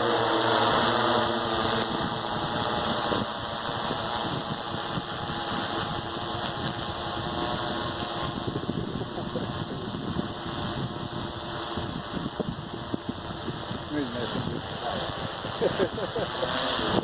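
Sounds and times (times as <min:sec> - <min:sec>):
drone rotors humming: 0:00.0 - 0:17.0.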